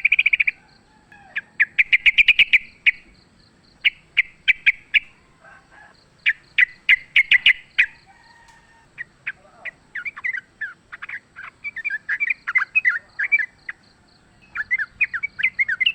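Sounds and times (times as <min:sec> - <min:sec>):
bulbul calling: 0:00.0 - 0:15.9.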